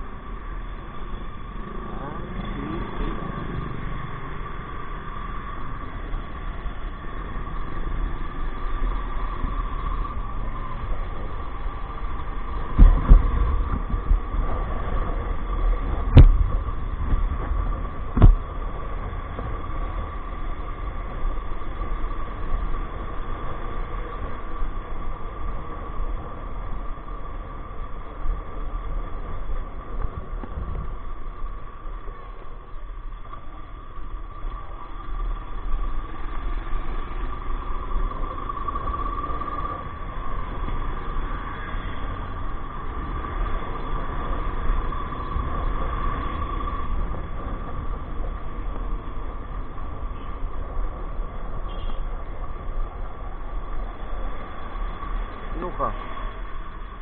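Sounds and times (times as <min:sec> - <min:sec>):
road and engine rumble: 0:00.0 - 0:57.0
steady high whine: 0:00.0 - 0:57.0.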